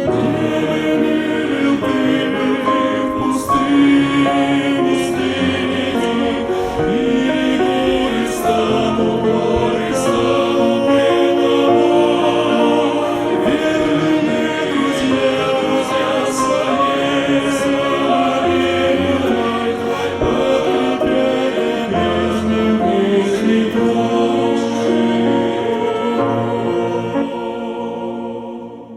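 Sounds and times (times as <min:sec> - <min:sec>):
choir singing held chords: 0:00.0 - 0:28.9
music: 0:00.0 - 0:28.9.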